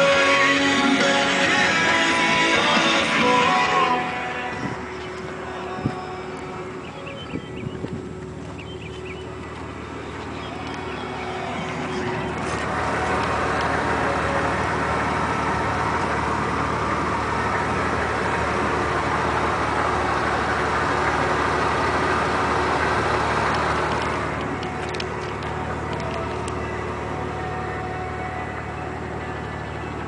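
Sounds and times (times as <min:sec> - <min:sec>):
truck exhaust note: 0:00.0 - 0:30.0.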